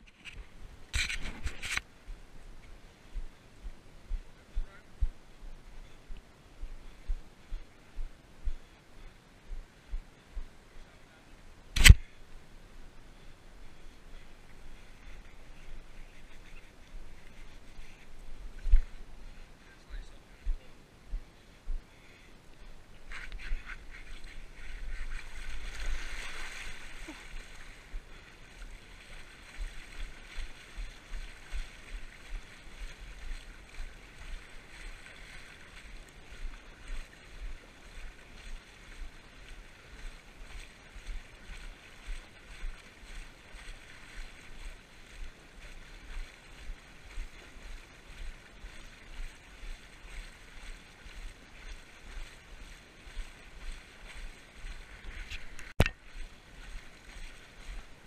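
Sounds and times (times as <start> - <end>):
wading through shallow water: 0.0 - 58.0.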